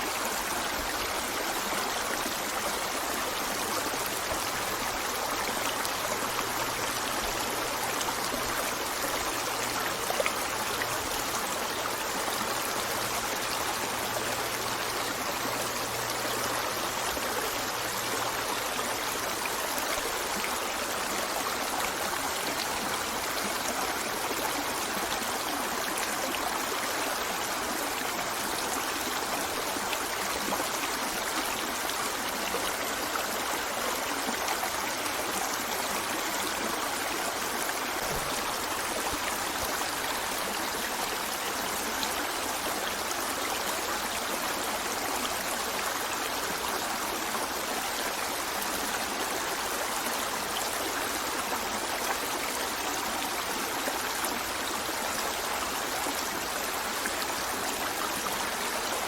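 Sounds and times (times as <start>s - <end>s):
river water running over stones: 0.0s - 59.0s.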